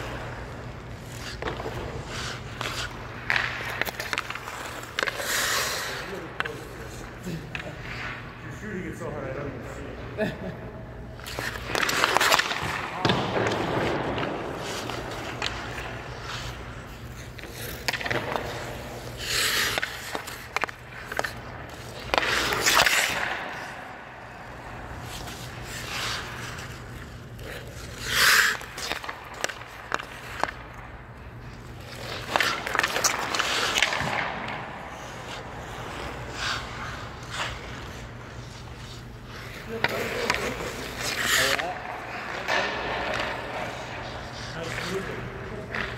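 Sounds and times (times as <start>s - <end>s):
stick and puck clacks: 0.0s - 9.5s, 11.1s - 45.9s
skate blades scraping ice: 0.0s - 10.3s, 10.9s - 45.9s.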